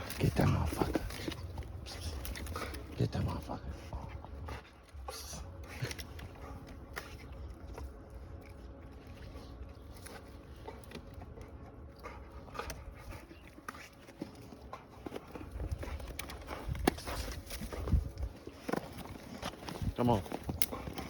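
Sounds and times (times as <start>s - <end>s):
steady low rumble: 0.0s - 13.9s, 14.5s - 21.0s
dog biting and tugging: 0.0s - 21.0s.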